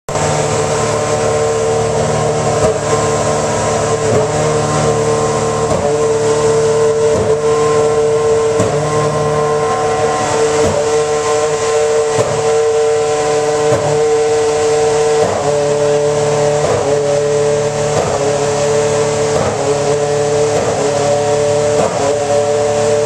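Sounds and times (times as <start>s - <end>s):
racing car engine shrill whine: 0.1s - 23.0s.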